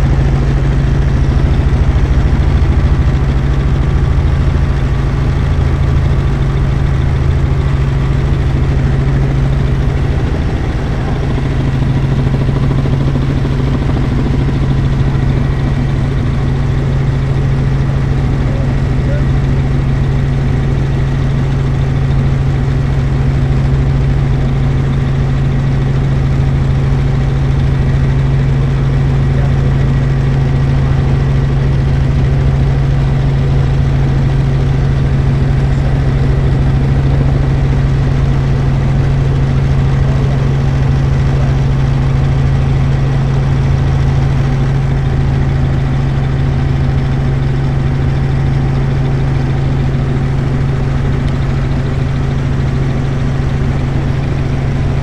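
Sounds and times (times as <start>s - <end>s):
helicopter drone: 0.0s - 55.0s.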